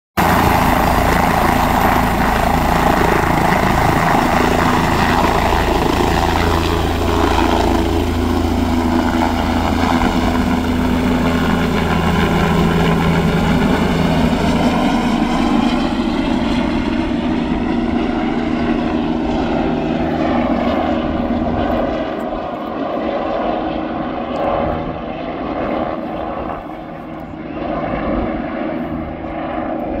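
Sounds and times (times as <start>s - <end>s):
helicopter taking off: 0.2s - 30.0s.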